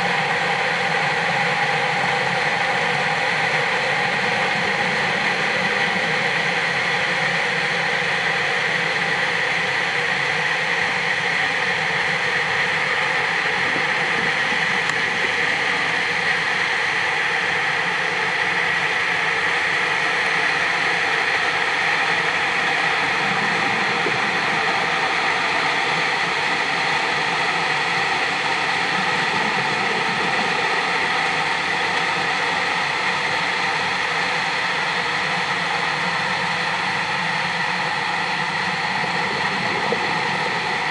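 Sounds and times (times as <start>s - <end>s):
underwater machinery hum: 0.0s - 40.9s.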